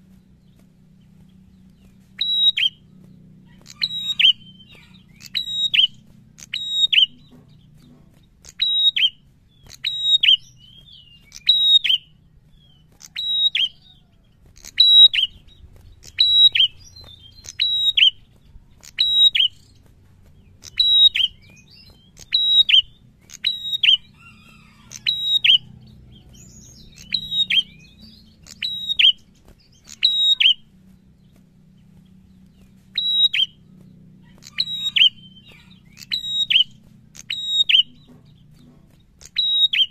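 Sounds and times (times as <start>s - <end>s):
bird singing loud call: 0.0s - 39.9s.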